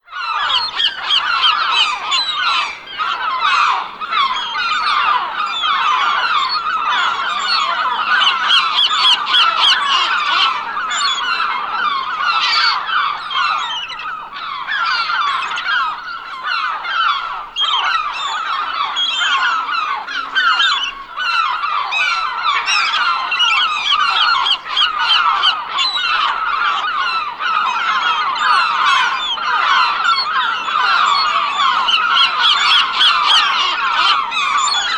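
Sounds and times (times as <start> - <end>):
large flock of birds calling: 0.0 - 34.9.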